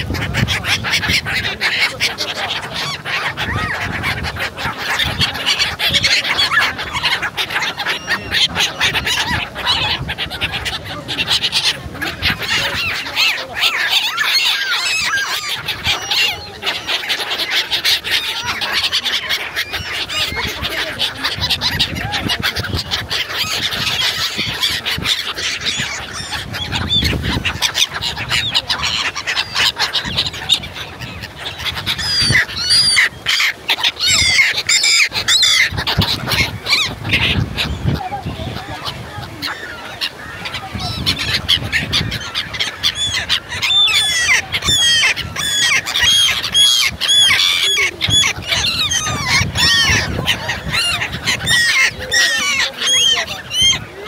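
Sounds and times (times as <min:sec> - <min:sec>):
gulls calling: 0:00.0 - 0:54.0.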